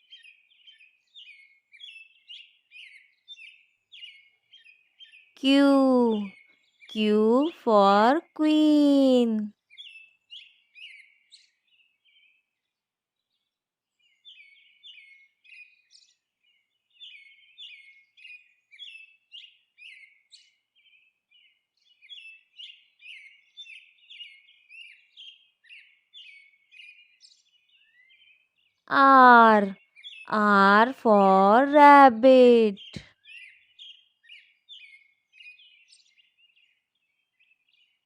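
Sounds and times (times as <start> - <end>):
small birds chirping: 0.0 - 12.4, 13.4 - 38.0.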